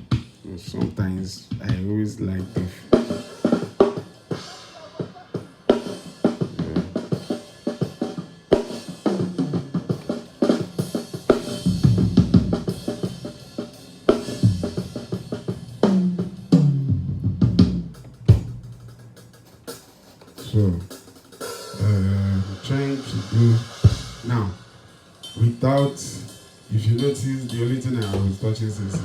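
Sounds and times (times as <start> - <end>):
drum kit groove: 0.0 - 29.0.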